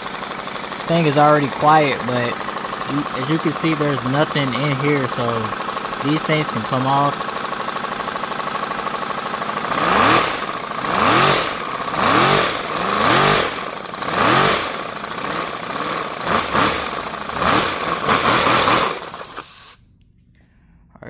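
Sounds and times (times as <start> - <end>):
compressed-air engine running: 0.0 - 19.8.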